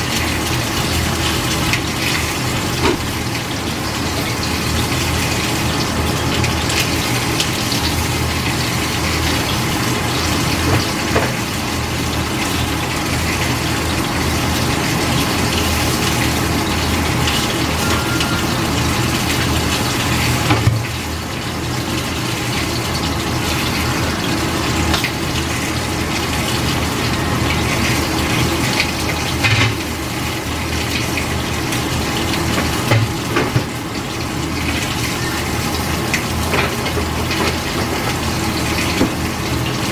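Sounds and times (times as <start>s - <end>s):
water boiling in a pot: 0.0s - 39.9s.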